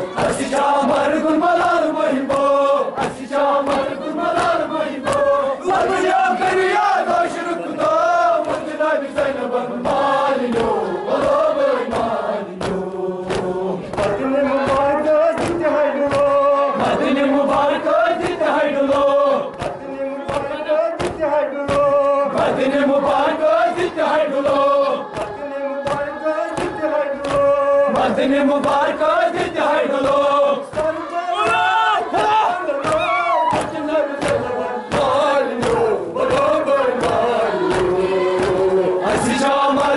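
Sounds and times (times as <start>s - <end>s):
men chanting in unison: 0.0s - 39.9s
hands slapping chests: 0.1s - 39.9s.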